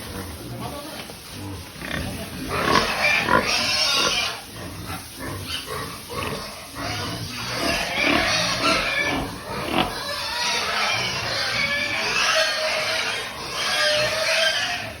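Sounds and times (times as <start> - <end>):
pigs grunting and squealing: 0.0 - 15.0.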